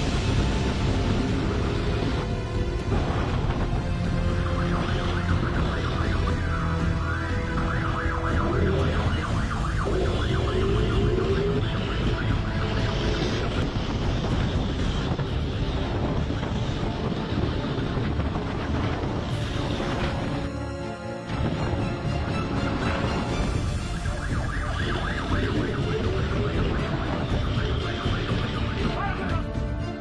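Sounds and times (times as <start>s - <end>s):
police siren wailing: 0.0s - 13.7s, 18.0s - 29.6s
vehicle engine and road noise: 0.0s - 30.0s.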